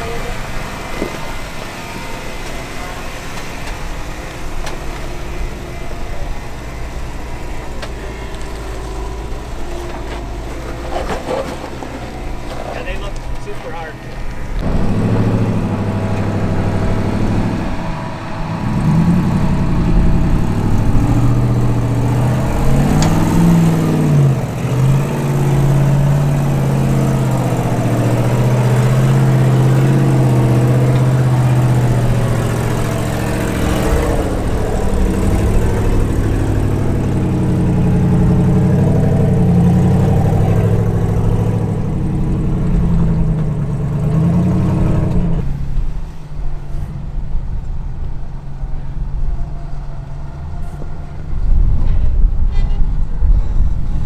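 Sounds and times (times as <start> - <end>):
engine working under load: 0.0 - 54.0.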